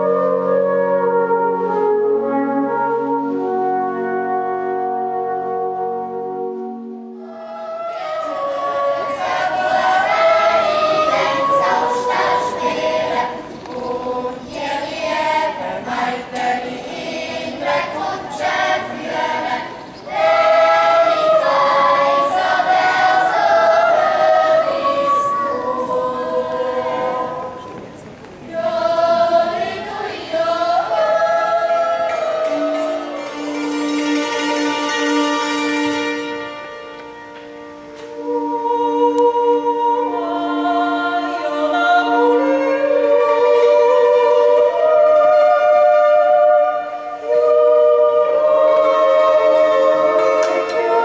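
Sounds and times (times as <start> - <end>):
children's choir singing: 0.0 - 4.3, 4.9 - 51.0
music with long held notes: 0.0 - 51.0.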